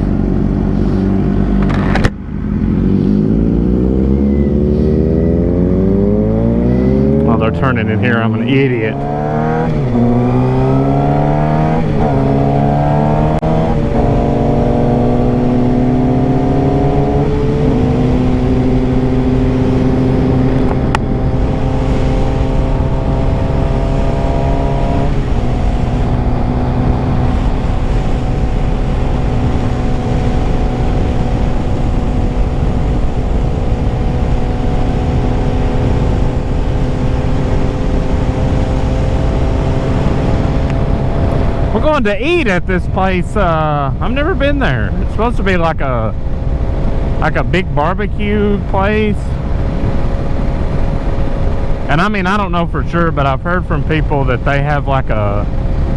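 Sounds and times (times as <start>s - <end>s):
motorcycle engine accelerating: 0.0s - 55.9s
wind rushing over microphone: 0.0s - 55.9s.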